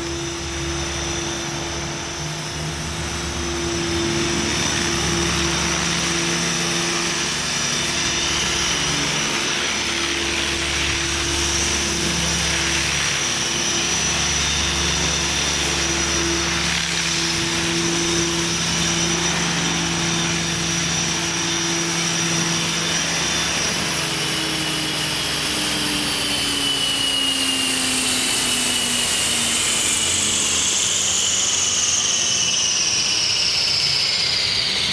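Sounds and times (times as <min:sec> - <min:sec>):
rc helicopter rotor whine: 0:00.0 - 0:34.9.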